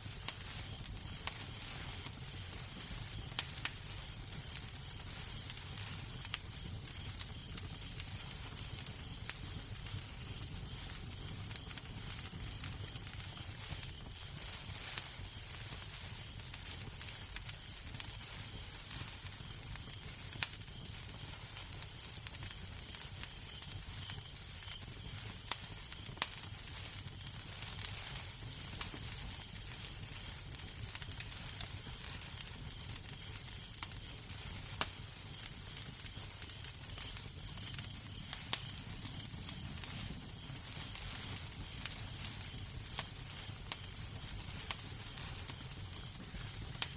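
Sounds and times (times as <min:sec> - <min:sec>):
fire pops and snaps: 0:00.0 - 0:46.9
wood fire crackling: 0:00.0 - 0:46.9.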